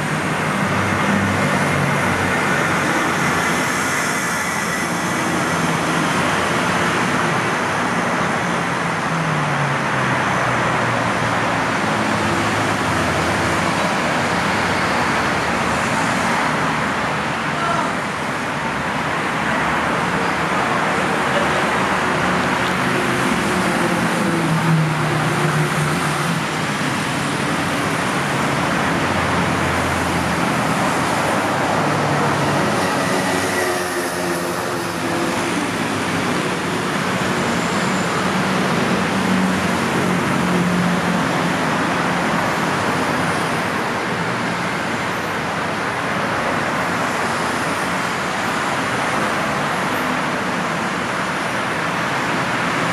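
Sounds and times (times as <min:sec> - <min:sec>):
cars and motorcycles passing: 0:00.0 - 0:52.9.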